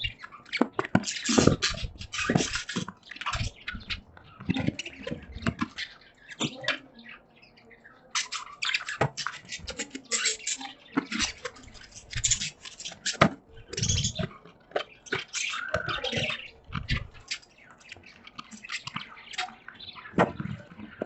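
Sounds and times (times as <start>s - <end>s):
budgies chattering: 0.0s - 21.0s.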